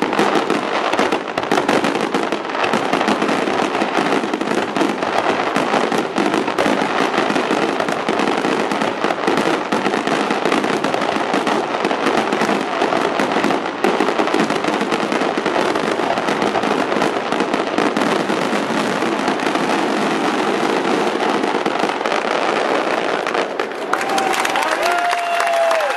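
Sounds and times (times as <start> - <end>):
fireworks bursting: 0.0 - 25.9.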